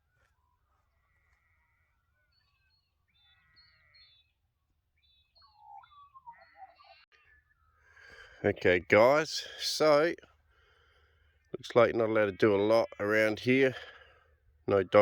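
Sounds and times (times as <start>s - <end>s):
birds warbling and chirping: 1.0s - 15.0s.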